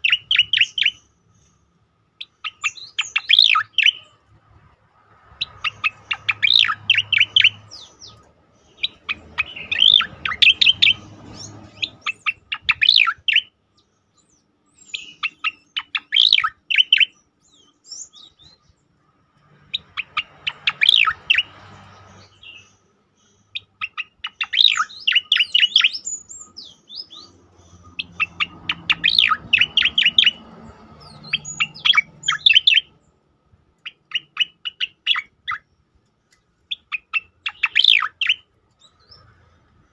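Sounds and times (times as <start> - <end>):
bird singing chattering notes: 0.0 - 1.6, 2.2 - 4.1, 5.4 - 18.9, 19.7 - 33.1, 33.8 - 35.9, 36.7 - 39.3.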